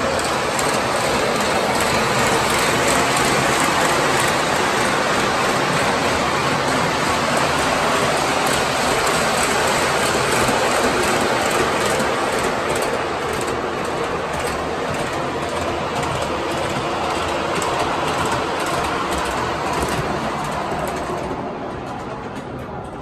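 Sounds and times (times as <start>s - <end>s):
model train running: 0.0s - 23.0s.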